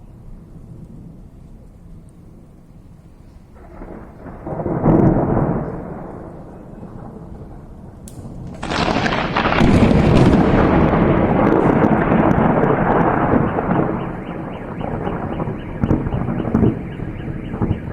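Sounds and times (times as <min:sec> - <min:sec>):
thunder rumbling: 0:00.0 - 0:17.9
thunder clap: 0:03.4 - 0:17.9.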